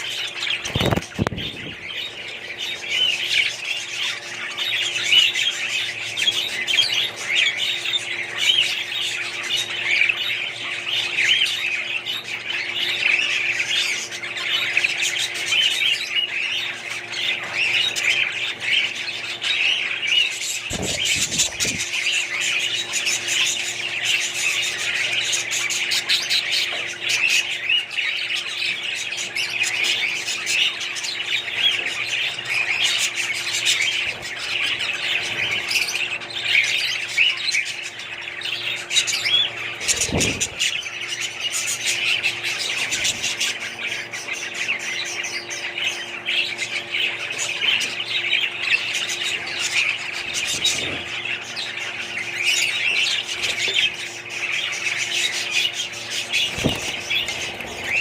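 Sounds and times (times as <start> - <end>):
budgerigars chattering and warbling: 0.0 - 58.0
faint steady hum: 0.0 - 58.0.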